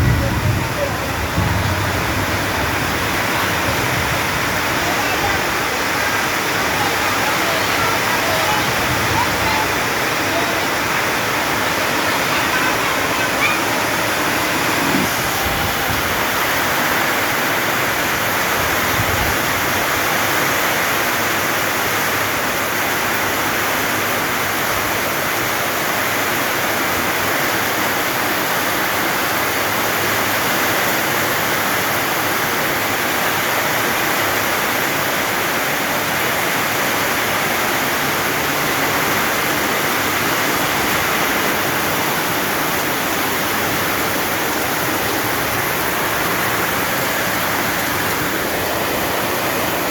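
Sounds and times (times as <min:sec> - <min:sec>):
rain pouring down: 0:00.0 - 0:49.9.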